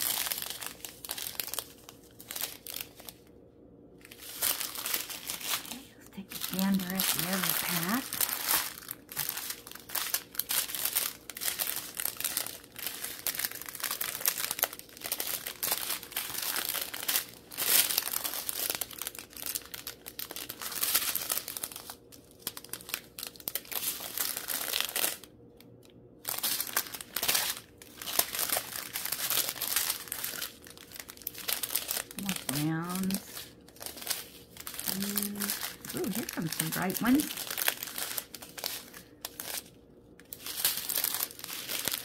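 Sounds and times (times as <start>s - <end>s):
plastic bags crinkling: 0.0s - 3.3s, 4.0s - 42.0s.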